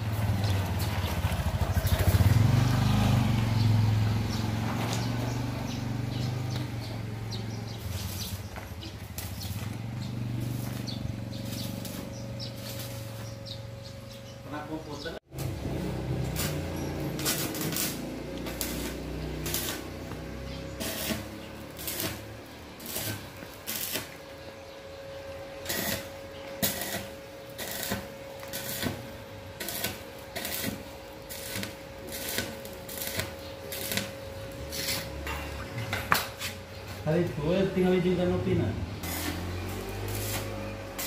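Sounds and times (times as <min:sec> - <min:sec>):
welding arc crackling: 0:00.0 - 0:13.7, 0:15.3 - 0:24.5, 0:25.6 - 0:35.2, 0:39.0 - 0:41.0.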